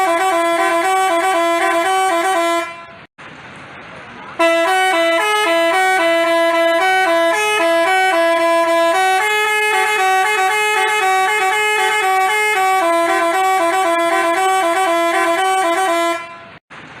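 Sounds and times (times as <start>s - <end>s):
multi-tone bus horn melody: 0.0s - 3.1s, 4.4s - 16.6s.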